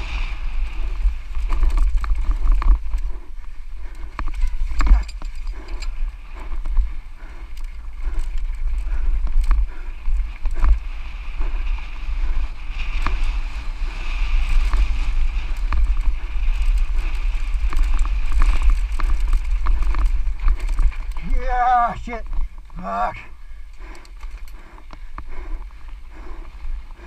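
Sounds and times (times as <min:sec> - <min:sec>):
bike rattling over rocks: 0:00.0 - 0:27.0
wind buffeting microphone: 0:00.0 - 0:27.0.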